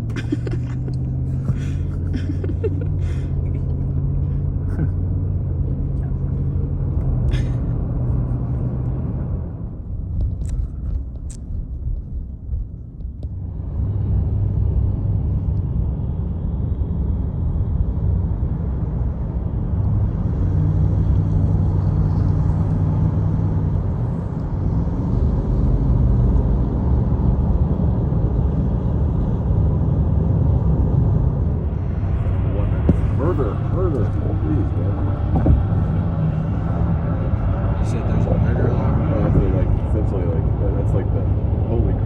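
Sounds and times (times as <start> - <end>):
car cabin road and engine rumble: 0.0 - 42.0.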